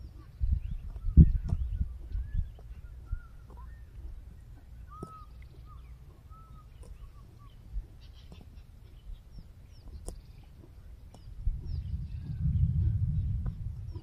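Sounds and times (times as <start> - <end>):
low rumble of wind: 0.0 - 14.0
small birds chirping: 0.0 - 14.0
zebra cropping grass: 0.0 - 14.0.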